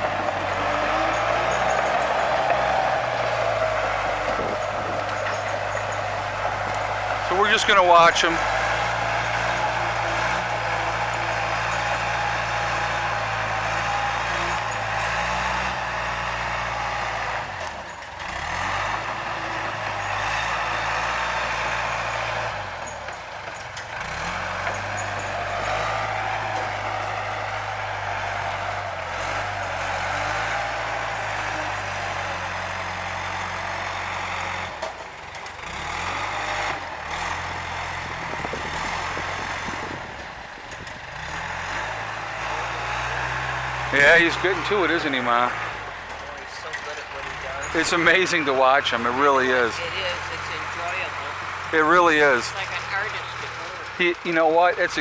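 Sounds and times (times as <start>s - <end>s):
diesel bulldozer engine under load: 0.0s - 55.0s.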